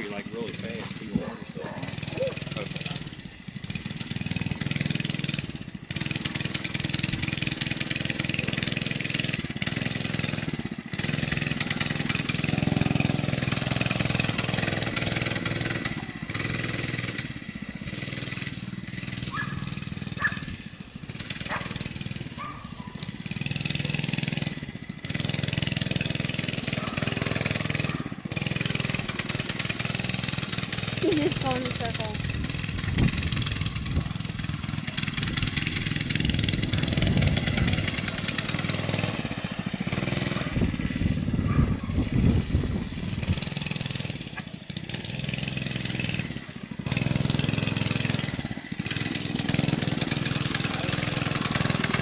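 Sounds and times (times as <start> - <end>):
mini bike engine running: 0.0 - 52.0.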